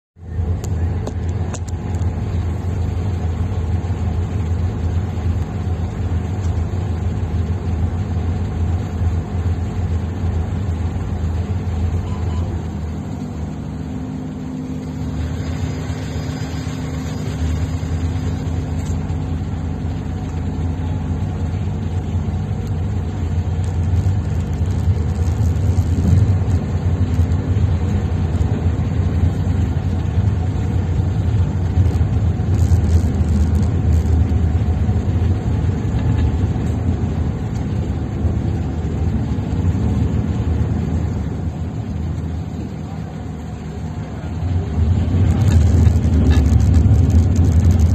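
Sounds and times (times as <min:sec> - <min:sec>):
boat engines droning: 0:00.2 - 0:47.9
rushing wake water: 0:00.8 - 0:47.9.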